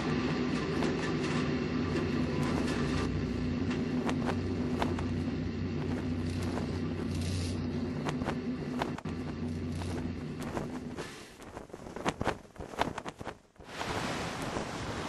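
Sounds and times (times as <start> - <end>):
low mechanical drone: 0.0 - 13.2.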